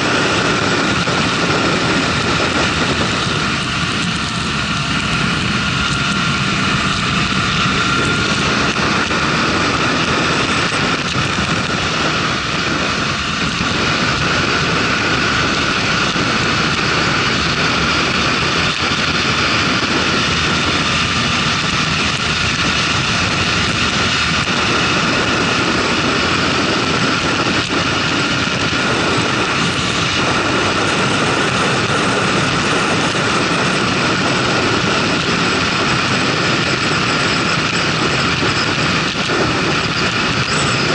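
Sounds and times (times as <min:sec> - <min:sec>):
motorcycle engine drone: 0:00.0 - 0:40.9
wind rush: 0:00.0 - 0:40.9.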